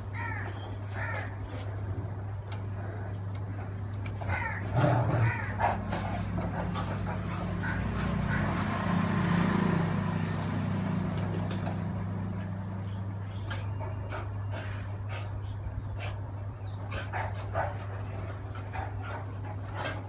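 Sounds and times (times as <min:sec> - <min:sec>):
dogs barking and yelping: 0:00.0 - 0:20.0
dogs growling: 0:00.2 - 0:20.0.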